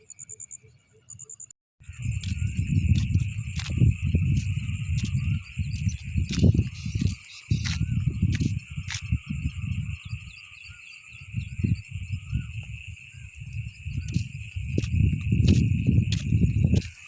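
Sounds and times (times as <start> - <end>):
insects and frogs chorus: 0.0 - 17.0.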